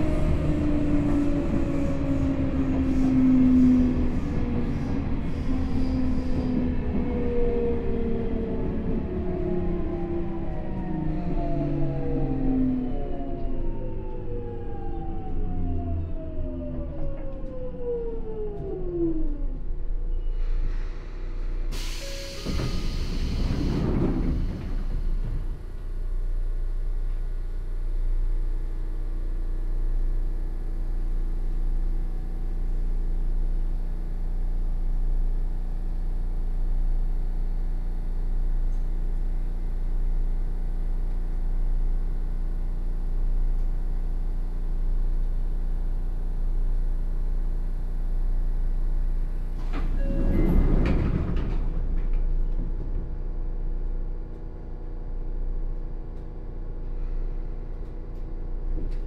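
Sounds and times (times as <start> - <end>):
train car equipment hum: 0.0 - 59.0.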